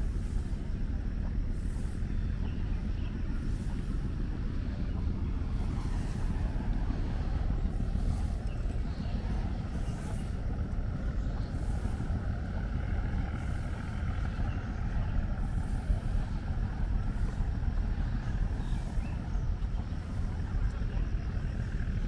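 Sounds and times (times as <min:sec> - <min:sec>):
city low rumble: 0:00.0 - 0:22.0.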